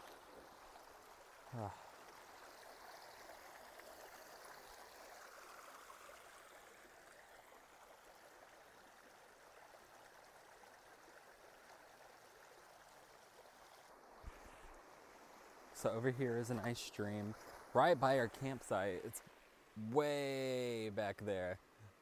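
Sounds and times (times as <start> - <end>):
running stream water: 0.0 - 22.0.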